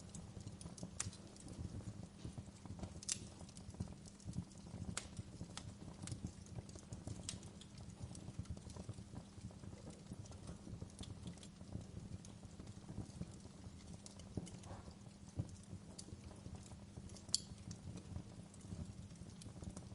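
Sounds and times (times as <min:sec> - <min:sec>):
campfire crackling: 0:00.0 - 0:19.9.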